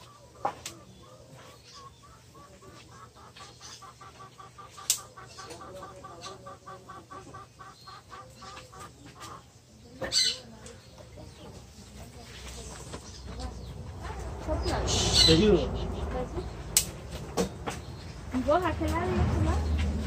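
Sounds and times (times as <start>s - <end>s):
hen clucking: 0.0s - 19.1s.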